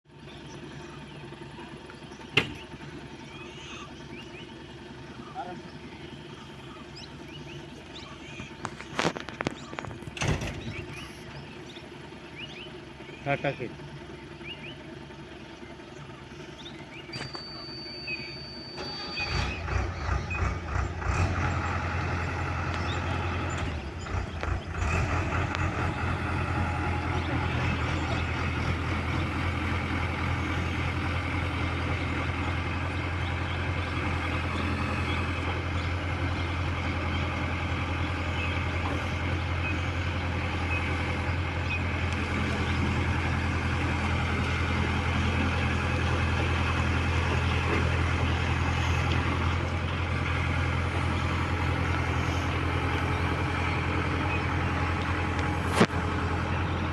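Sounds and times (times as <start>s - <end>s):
heavy machinery diesel engine: 0.1s - 56.9s.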